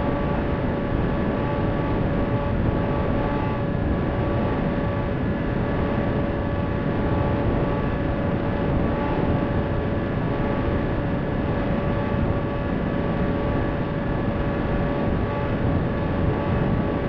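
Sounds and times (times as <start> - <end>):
electric motor and propeller drone: 0.0 - 17.0
wind rumble on microphone: 0.0 - 17.0.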